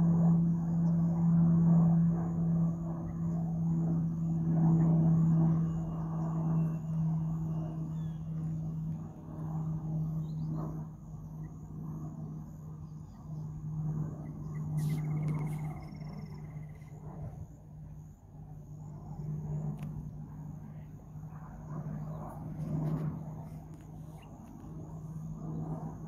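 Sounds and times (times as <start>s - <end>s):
aircraft droning hum: 0.0s - 26.0s.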